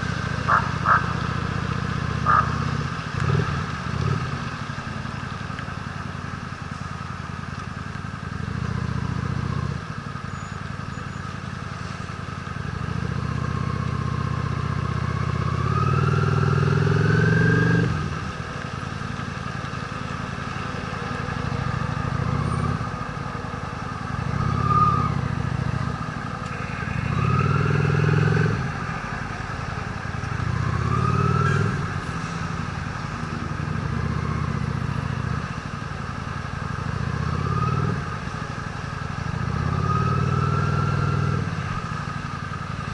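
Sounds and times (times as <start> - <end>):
motorcycle engine revving: 0.0 - 5.2, 8.1 - 10.2, 12.6 - 19.5, 20.9 - 42.9.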